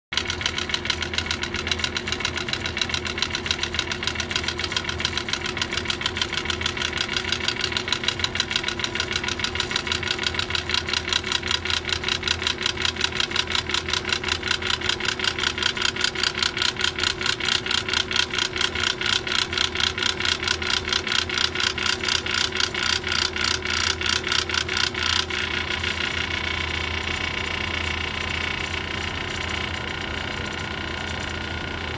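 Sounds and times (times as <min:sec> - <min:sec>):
compressor mechanical knocking: 0:00.2 - 0:31.9.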